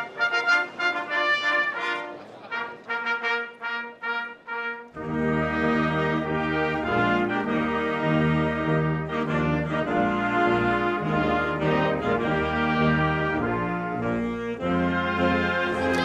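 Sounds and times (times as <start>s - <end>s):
brass fanfare: 0.0s - 16.0s
low brass sustained chords: 0.0s - 16.0s.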